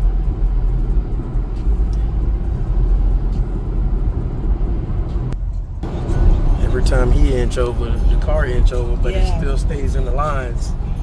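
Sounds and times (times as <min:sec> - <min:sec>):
road and tyre rumble in car cabin: 0:00.0 - 0:11.0.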